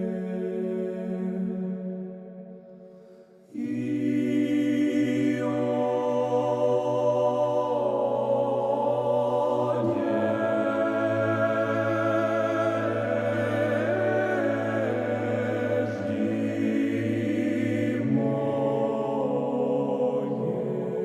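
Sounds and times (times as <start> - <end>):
church choir singing a cappella: 0.0 - 21.0.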